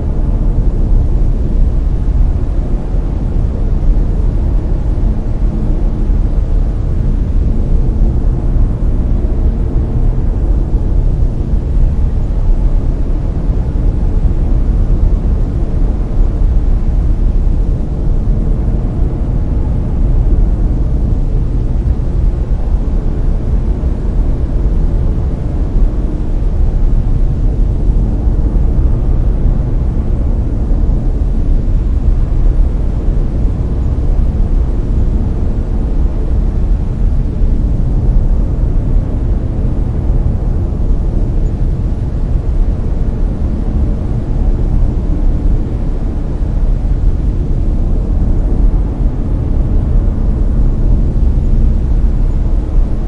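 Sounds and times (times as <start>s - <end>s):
brown noise: 0.0s - 53.0s.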